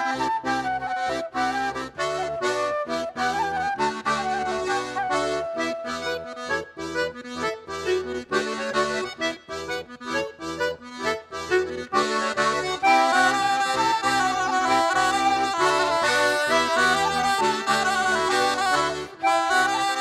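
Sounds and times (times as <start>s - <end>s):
accordion dance tune: 0.0s - 20.0s.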